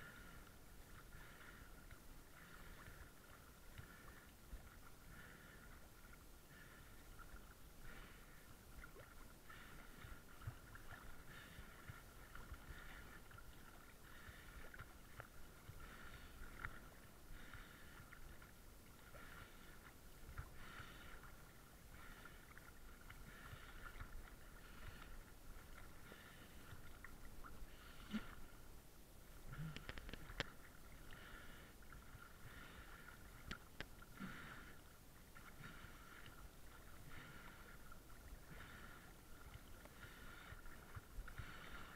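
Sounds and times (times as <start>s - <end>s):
muffled water lapping and sloshing: 0.0s - 41.9s.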